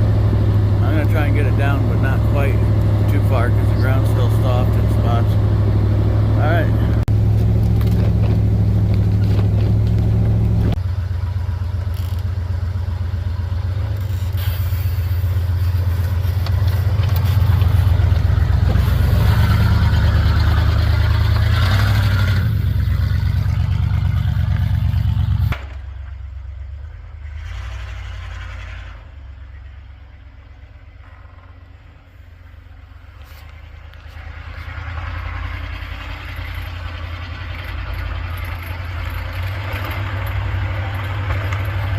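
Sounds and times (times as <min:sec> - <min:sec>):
truck engine running: 0:00.0 - 0:41.9.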